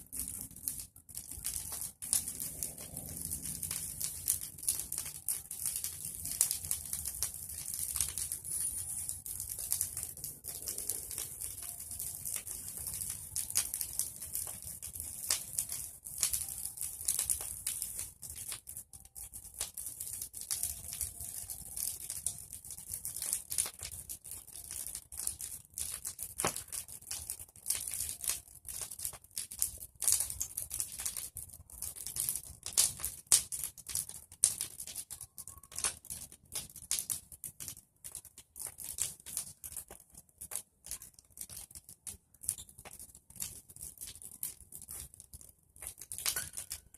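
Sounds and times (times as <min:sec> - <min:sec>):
bonfire crackling and popping: 0:00.0 - 0:46.9.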